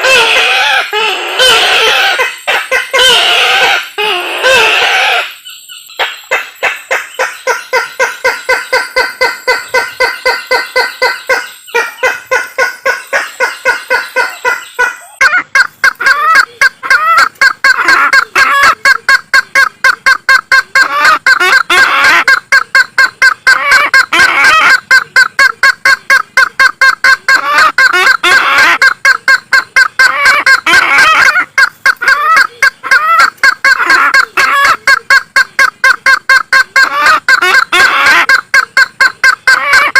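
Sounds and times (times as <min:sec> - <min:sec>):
waterhen repeated calls: 0:00.0 - 0:39.9.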